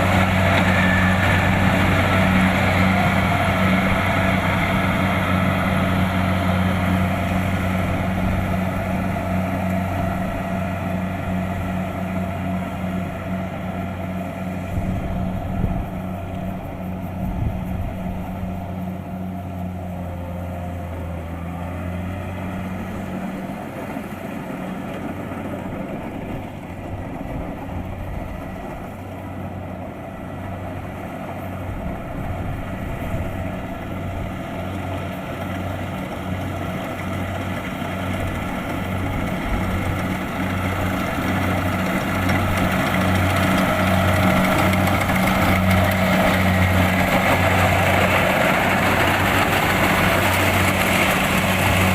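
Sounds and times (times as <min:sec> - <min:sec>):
diesel engine throbbing: 0:00.0 - 0:51.9.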